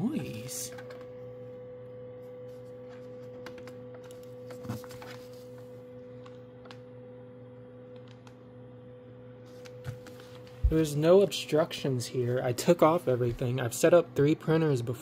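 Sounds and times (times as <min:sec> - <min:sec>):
printer humming: 0:00.0 - 0:15.0.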